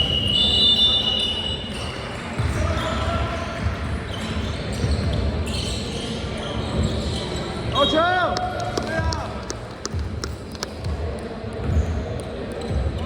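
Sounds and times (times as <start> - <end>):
players and spectators noise: 0.0 - 13.0.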